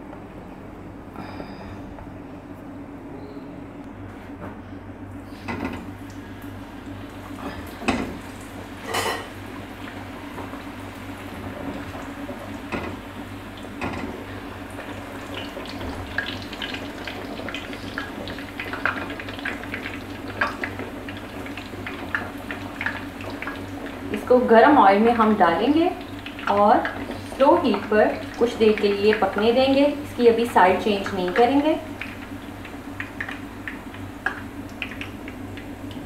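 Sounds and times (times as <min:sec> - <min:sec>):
steady low hum: 0:00.0 - 0:36.0
oil sizzling and crackling: 0:05.8 - 0:36.0.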